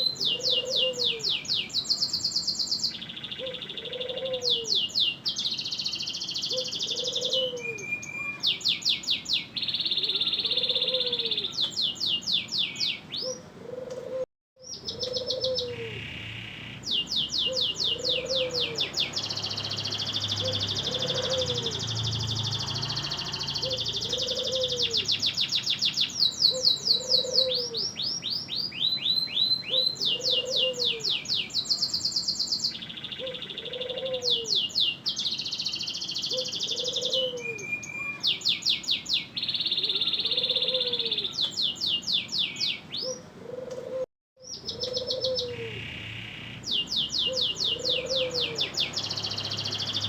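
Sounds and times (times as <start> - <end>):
canary singing trills: 0.0 - 13.5, 14.6 - 43.3, 44.4 - 50.0.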